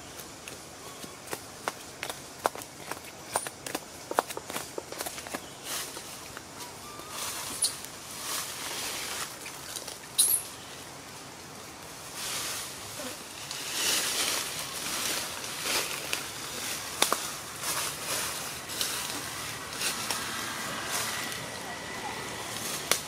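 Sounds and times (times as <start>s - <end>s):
rustling in tree branches: 0.0s - 23.0s.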